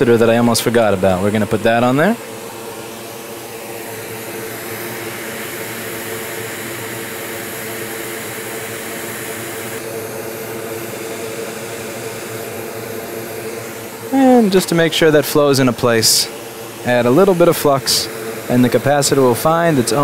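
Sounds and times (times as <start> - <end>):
fume extractor air rush and hum: 0.0 - 20.0.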